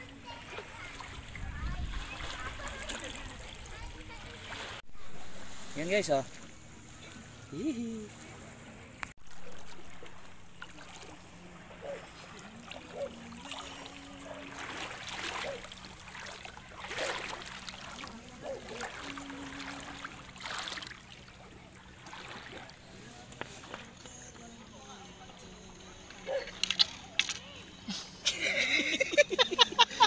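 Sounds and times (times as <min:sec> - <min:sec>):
water splashing and sloshing: 0:00.0 - 0:30.0.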